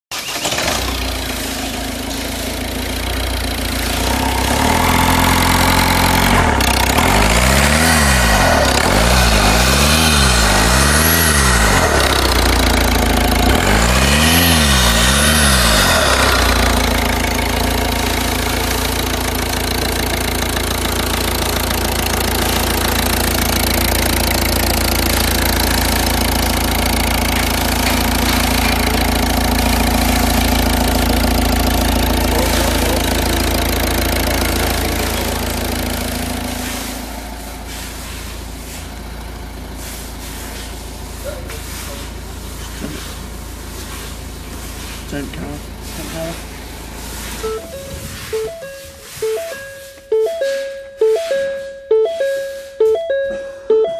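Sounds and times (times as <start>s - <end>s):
diesel engine idling and revving: 0.0s - 53.9s.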